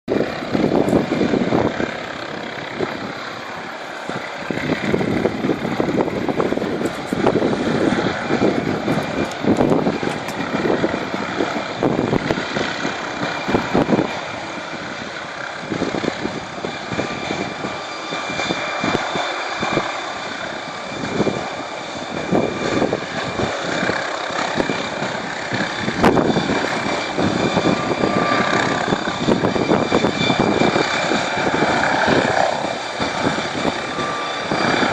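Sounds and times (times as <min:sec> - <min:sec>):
helicopter turbine and rotor drone: 0:00.1 - 0:34.9
wind buffeting microphone: 0:00.1 - 0:34.9.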